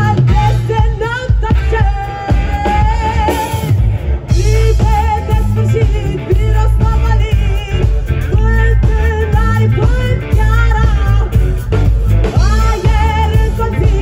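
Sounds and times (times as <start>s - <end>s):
woman singing: 0.0s - 11.6s, 12.3s - 14.0s
live rock band: 0.0s - 14.0s.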